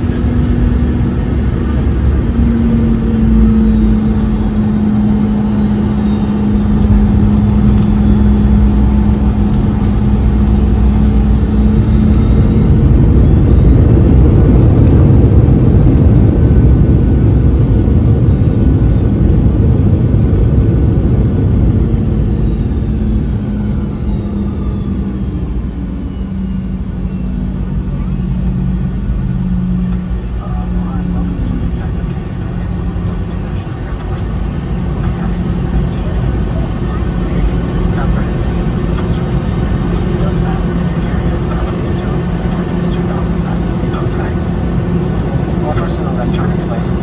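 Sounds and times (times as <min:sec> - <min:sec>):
jet engines whining and rumbling: 0:00.0 - 0:47.0.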